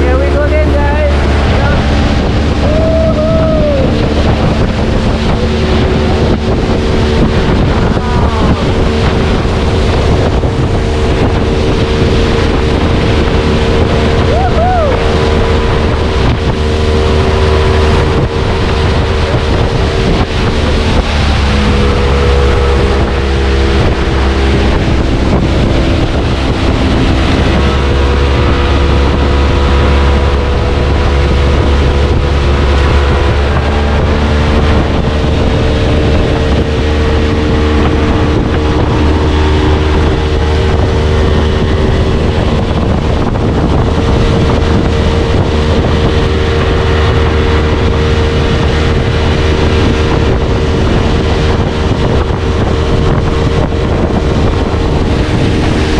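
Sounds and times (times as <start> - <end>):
boat motor running: 0.0 - 55.9
wind buffeting microphone: 0.0 - 55.9.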